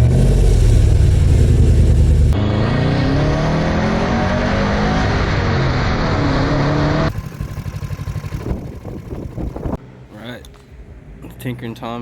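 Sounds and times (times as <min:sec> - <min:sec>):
vehicle engine revving: 0:00.0 - 0:09.8.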